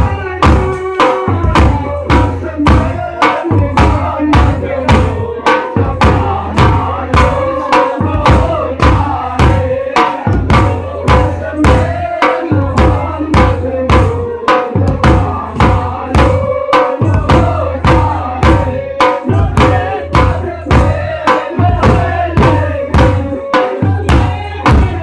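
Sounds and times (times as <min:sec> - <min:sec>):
drums beating steadily: 0:00.0 - 0:25.0.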